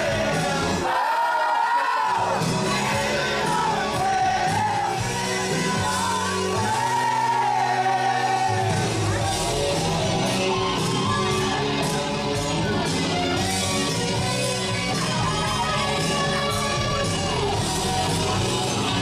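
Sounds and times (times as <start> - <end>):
rock music with singing: 0.0 - 19.0.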